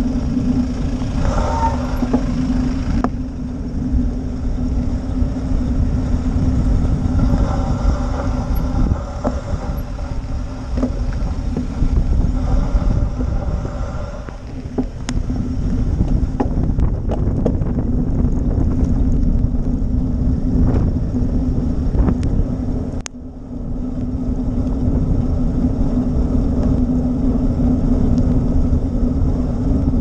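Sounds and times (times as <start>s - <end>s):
car engines humming: 0.0s - 30.0s
wind rumble on microphone: 0.0s - 30.0s.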